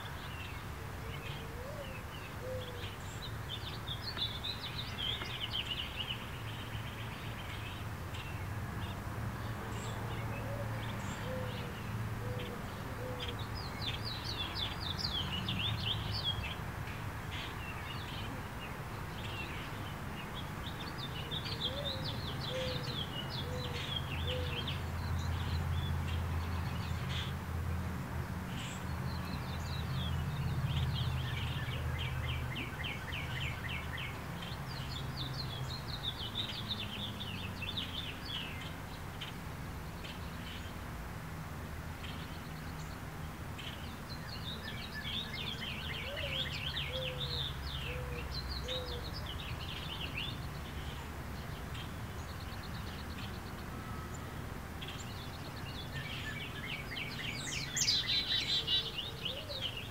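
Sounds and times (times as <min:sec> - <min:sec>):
small birds chirping and trilling: 0:00.0 - 0:59.9.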